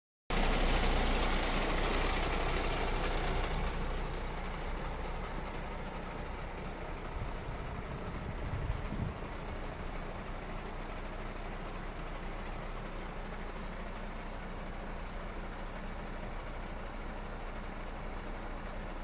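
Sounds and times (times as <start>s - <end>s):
diesel truck engine idling: 0.3s - 19.0s.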